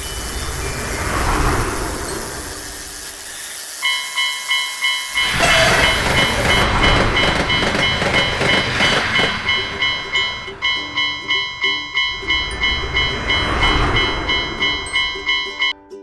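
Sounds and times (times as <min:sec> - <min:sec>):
train passing rushing noise: 0:00.0 - 0:15.7
level-crossing alarm ringing: 0:00.0 - 0:15.8.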